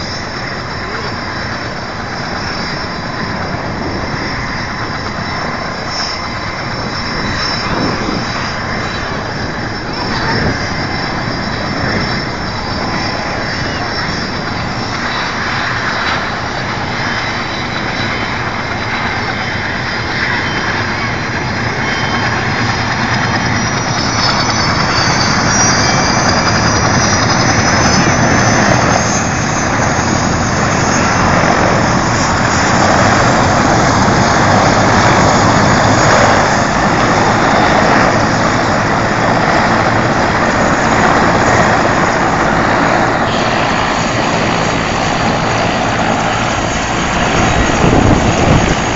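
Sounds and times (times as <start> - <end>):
helicopter engine and rotor noise: 0.0 - 48.9
high turbine whine: 0.0 - 48.9.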